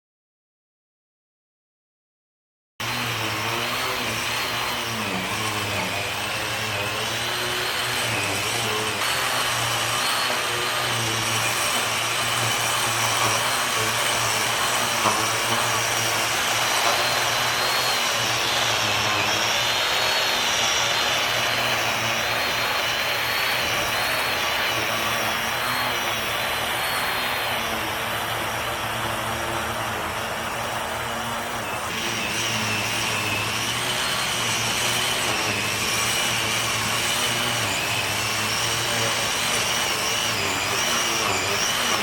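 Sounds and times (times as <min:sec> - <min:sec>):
lawn edger running: 0:02.8 - 0:42.0.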